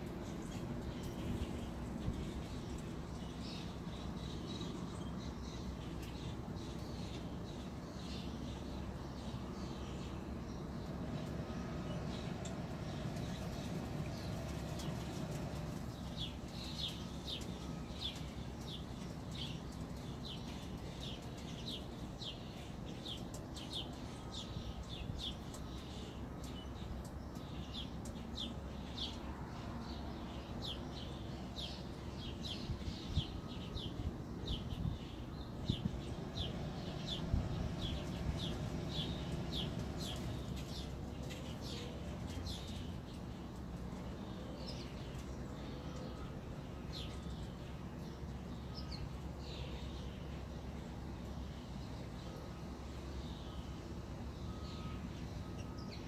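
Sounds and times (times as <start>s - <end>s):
bird chirping: 0.0s - 56.0s
steady low hum: 0.0s - 56.0s.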